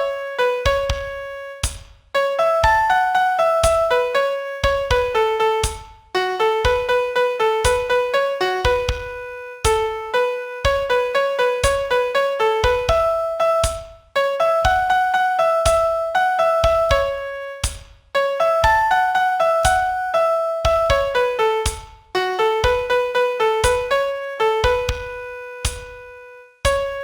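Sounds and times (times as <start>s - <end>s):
piano melody: 0.0s - 27.0s.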